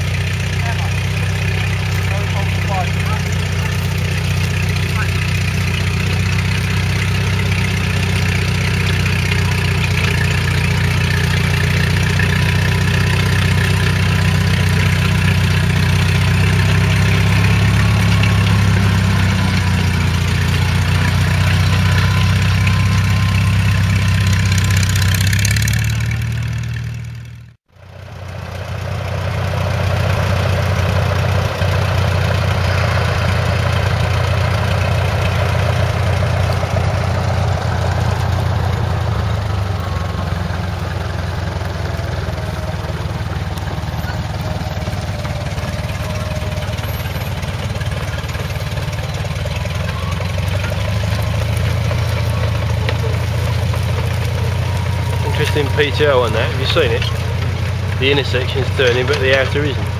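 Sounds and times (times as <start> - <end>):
tractor engine under load: 0.0 - 59.9.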